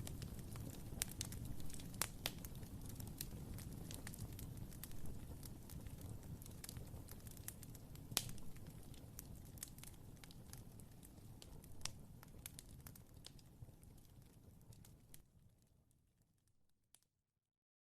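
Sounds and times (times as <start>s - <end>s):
wood fire crackling: 0.0s - 15.4s.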